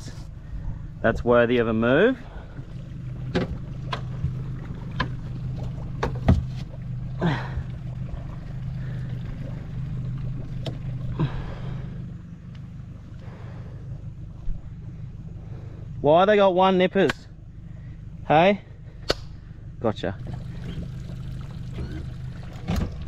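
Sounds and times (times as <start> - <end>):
boat motor running: 0.0 - 23.0.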